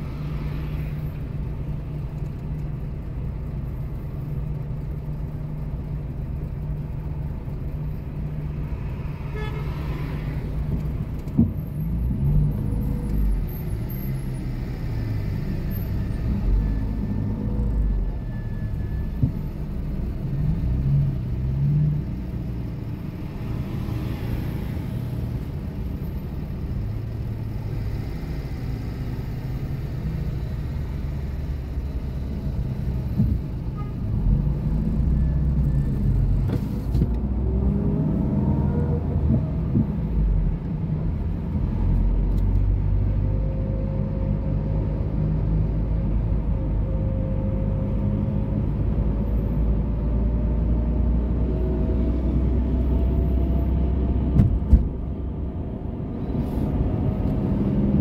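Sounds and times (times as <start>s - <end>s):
car engine rumble and road noise: 0.0s - 58.0s.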